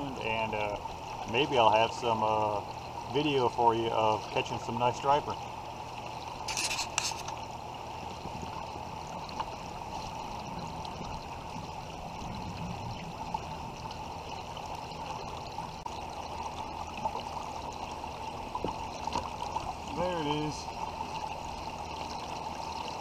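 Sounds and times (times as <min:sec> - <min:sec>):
river current flowing: 0:00.0 - 0:23.0.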